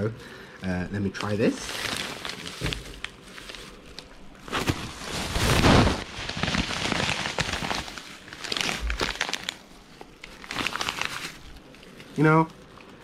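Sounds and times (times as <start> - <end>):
food wrapper crinkling: 1.1 - 13.0.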